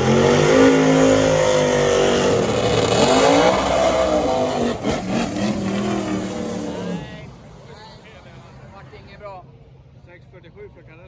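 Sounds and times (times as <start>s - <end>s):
drag racing car engines: 0.0s - 11.0s.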